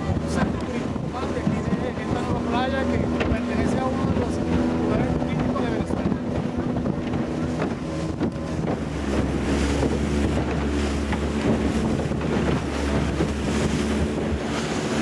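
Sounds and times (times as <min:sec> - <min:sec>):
motorboat engine running: 0:00.0 - 0:15.0
water rushing and splashing: 0:00.0 - 0:15.0
wind buffeting microphone: 0:00.0 - 0:15.0.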